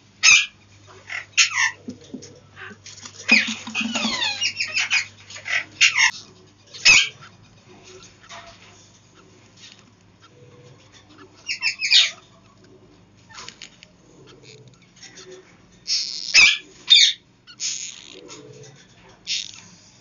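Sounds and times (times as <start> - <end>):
birds squawking: 0.0 - 19.8.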